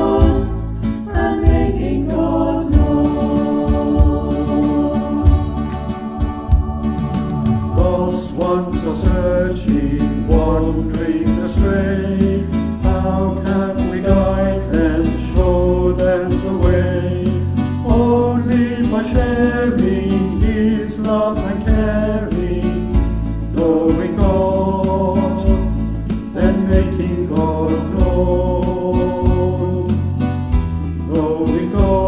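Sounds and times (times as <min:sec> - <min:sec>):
group singing a christian song: 0:00.0 - 0:32.0
instrumental backing: 0:00.0 - 0:32.0.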